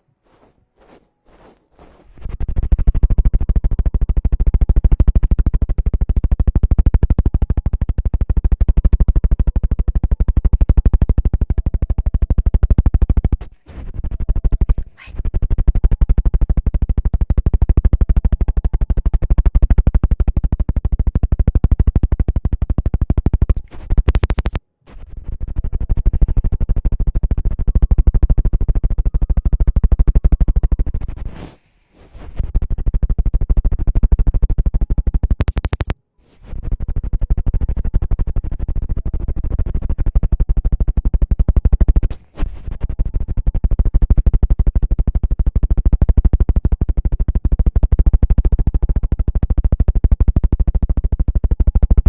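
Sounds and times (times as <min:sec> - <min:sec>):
fast clicks and scratches: 0:00.0 - 0:52.0.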